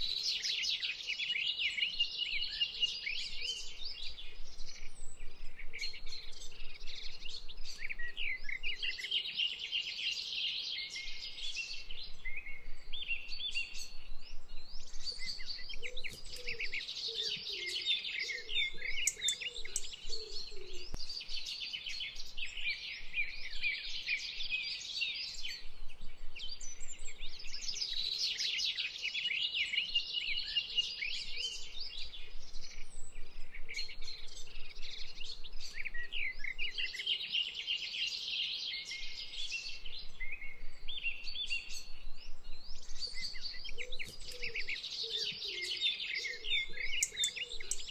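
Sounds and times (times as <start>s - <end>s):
songbirds chorus: 0.0s - 47.9s.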